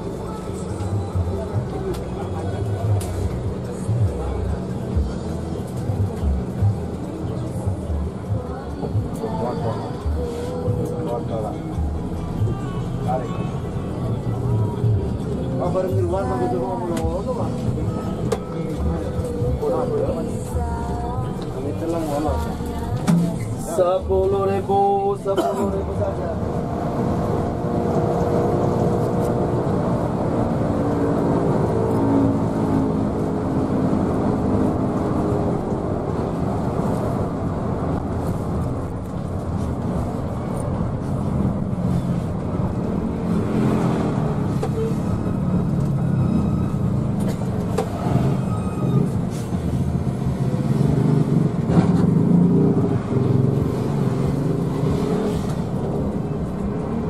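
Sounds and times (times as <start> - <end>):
bus diesel engine accelerating: 0.0 - 57.0
road rumble: 0.0 - 57.0.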